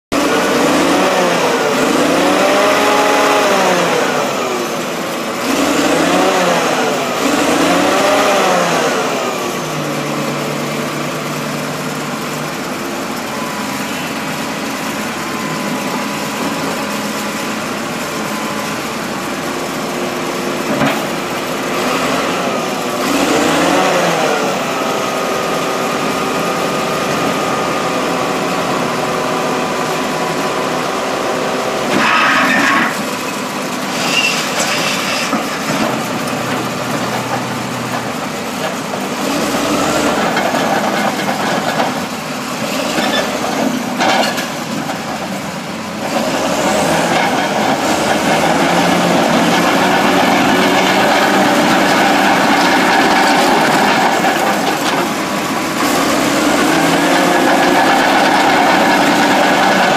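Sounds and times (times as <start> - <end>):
bulldozer diesel engine revving: 0.1 - 59.9.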